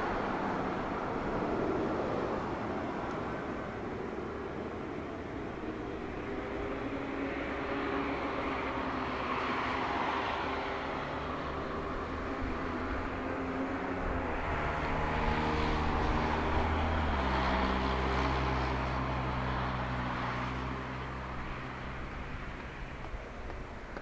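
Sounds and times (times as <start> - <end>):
jet engines humming and whining: 0.0 - 24.0.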